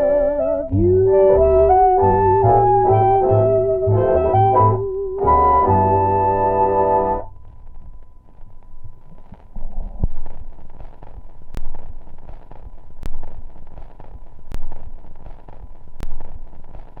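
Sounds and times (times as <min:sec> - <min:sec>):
muffled rain: 0:00.0 - 0:17.0.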